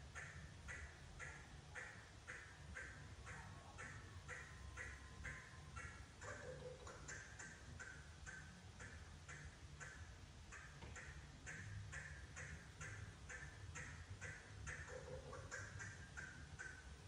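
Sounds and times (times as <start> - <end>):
bird calling: 0.1 - 17.0.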